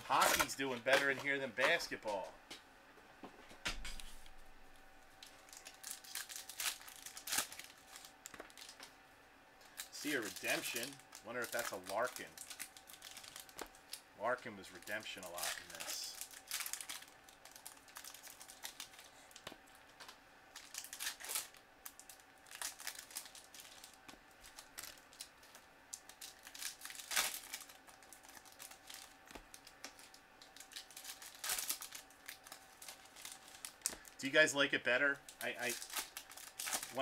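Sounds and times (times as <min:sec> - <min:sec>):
card wrappers crinkling and tearing: 0:00.0 - 0:02.2, 0:05.2 - 0:08.9, 0:09.7 - 0:34.4, 0:35.2 - 0:37.0.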